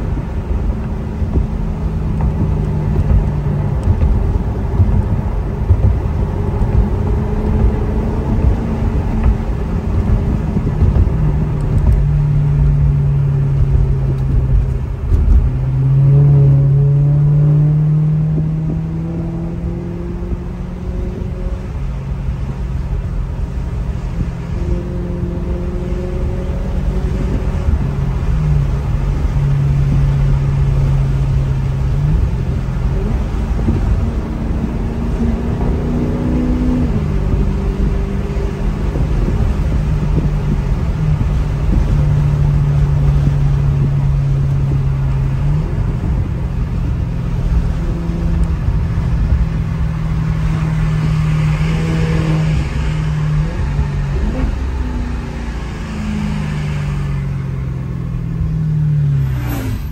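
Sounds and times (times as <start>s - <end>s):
car engine and exhaust cruising: 0.0s - 59.9s
road and tyre rumble: 0.0s - 59.9s.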